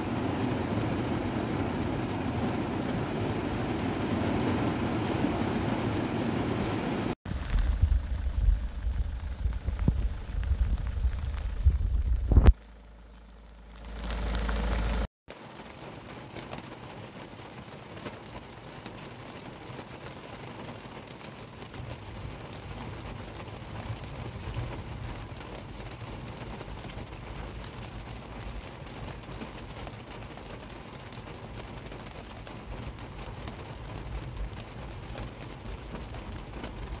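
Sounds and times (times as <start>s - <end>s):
heavy rain on car roof: 0.0s - 37.0s.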